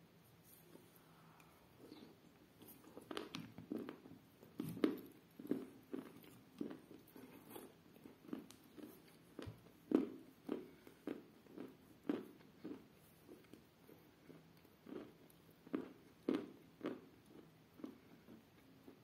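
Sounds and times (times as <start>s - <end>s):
person chewing: 0.4s - 19.0s.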